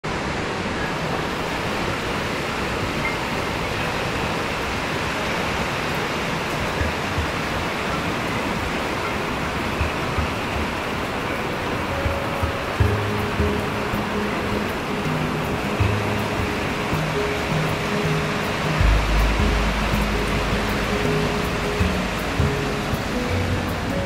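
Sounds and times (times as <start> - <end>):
river rapids roaring: 0.1 - 24.0
faint background music: 1.4 - 24.0.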